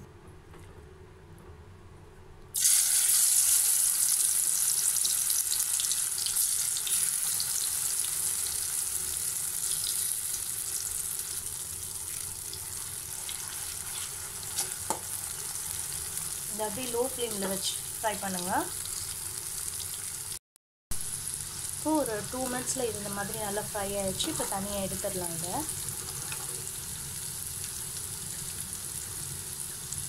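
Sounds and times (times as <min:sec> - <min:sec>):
food sizzling in hot oil: 0:02.6 - 0:30.0.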